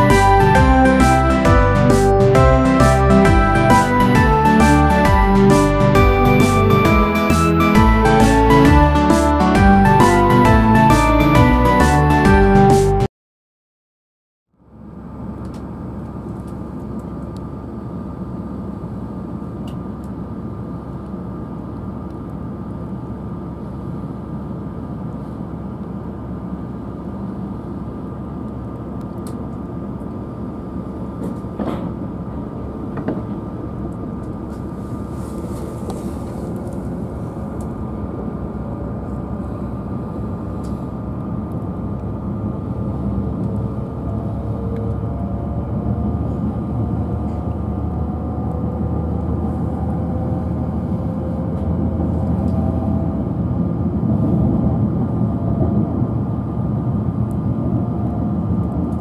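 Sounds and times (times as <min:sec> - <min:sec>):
train rumble: 0:00.0 - 0:13.1, 0:14.6 - 0:59.0.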